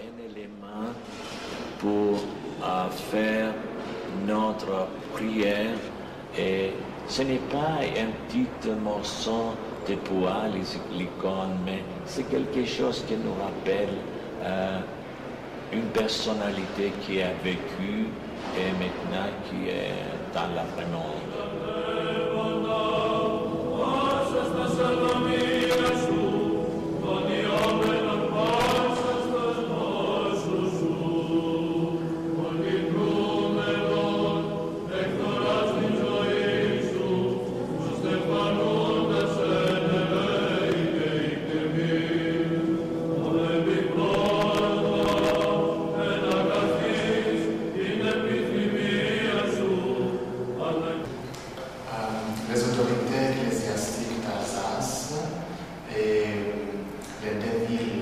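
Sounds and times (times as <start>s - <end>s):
choir chanting slow melody: 0.0s - 58.0s.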